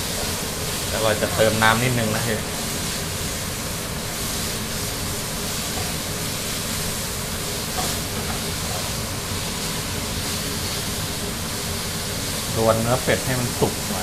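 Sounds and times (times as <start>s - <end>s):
meat sizzling in a hot pan: 0.0s - 14.0s.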